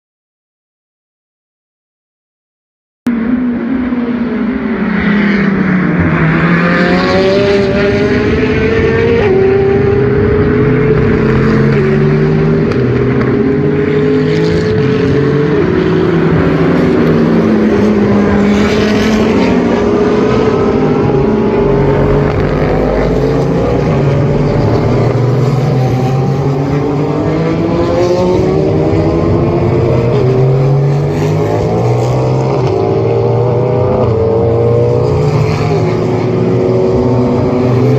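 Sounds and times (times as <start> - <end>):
racing car engines revving: 3.1 - 37.9.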